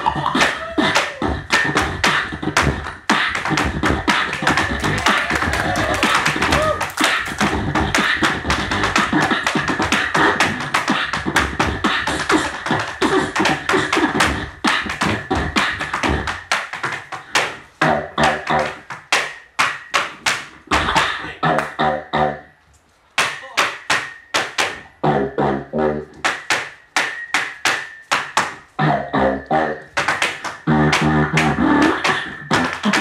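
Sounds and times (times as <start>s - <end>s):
beatboxing over a microphone: 0.0s - 22.6s, 23.4s - 26.5s, 27.1s - 33.0s.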